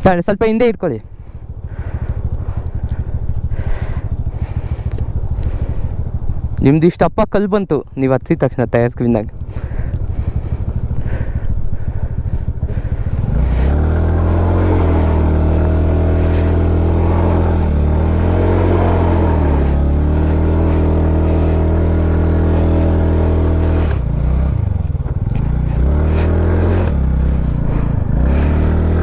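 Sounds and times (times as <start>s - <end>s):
motorcycle engine revving: 0.0s - 6.9s, 7.8s - 29.0s.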